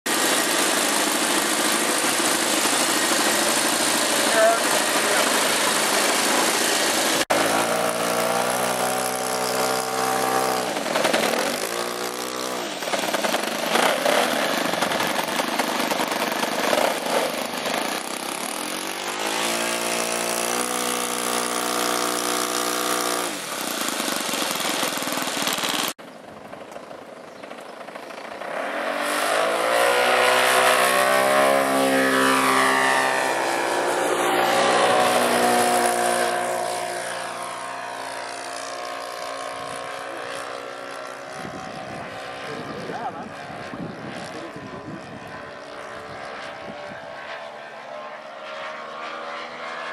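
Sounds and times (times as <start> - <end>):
model airplane engine running: 0.1 - 49.9
model plane flying past: 0.1 - 49.9.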